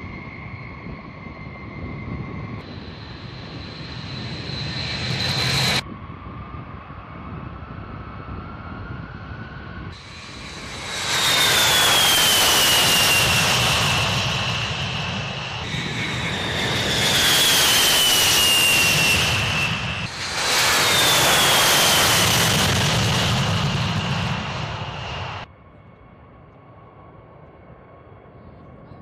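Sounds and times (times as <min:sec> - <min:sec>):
jet engines passing with whine: 0:00.0 - 0:29.0.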